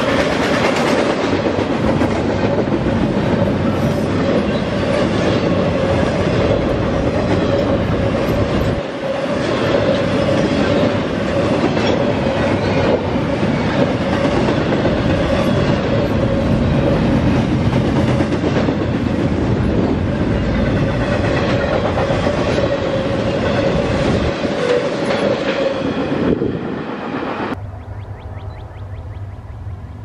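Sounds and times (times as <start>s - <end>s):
train cars clattering over rails: 0.0s - 26.5s.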